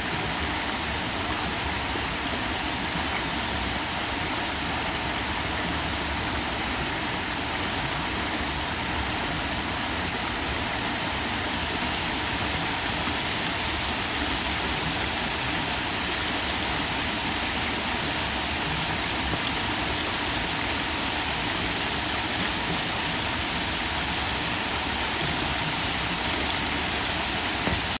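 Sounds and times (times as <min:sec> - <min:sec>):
waterfall splashing into pool: 0:00.0 - 0:28.0.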